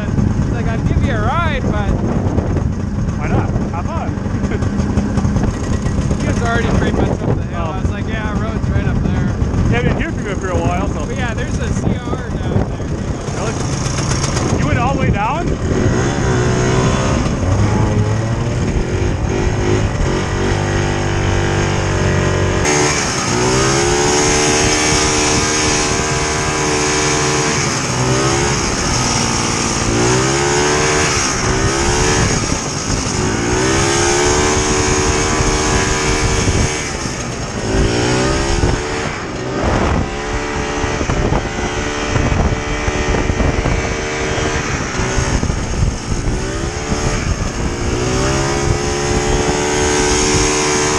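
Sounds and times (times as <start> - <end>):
two-stroke snowmobile engine revving: 0.0 - 50.9.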